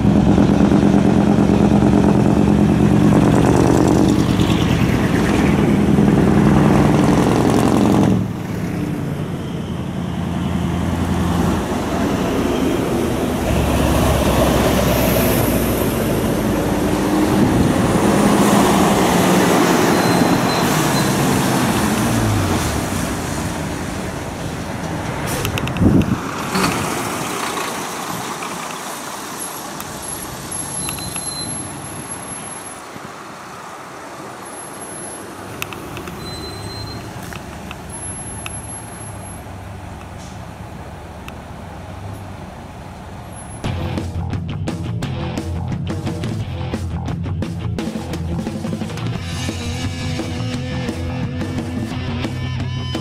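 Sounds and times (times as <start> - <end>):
heavy trucks passing: 0.0 - 53.0.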